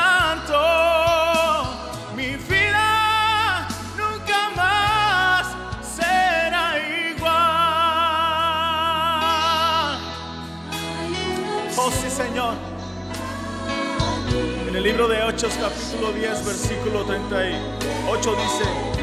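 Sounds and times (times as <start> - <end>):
gospel instrumental backing: 0.0 - 19.0
person singing with vibrato: 0.0 - 19.0.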